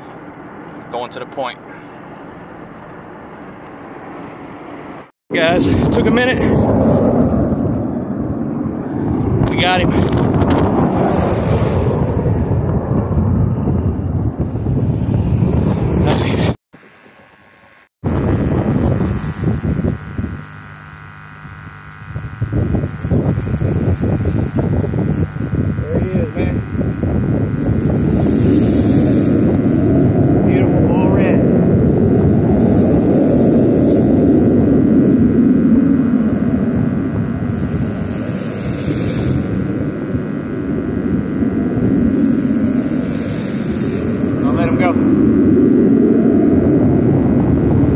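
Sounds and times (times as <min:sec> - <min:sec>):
wind buffeting microphone: 0:05.3 - 0:16.6, 0:18.0 - 0:47.9.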